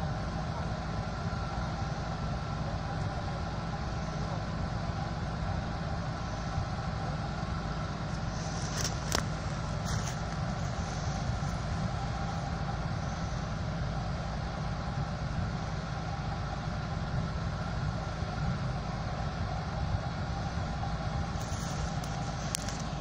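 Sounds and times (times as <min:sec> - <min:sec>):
vehicle engine running hard: 0:00.0 - 0:23.0.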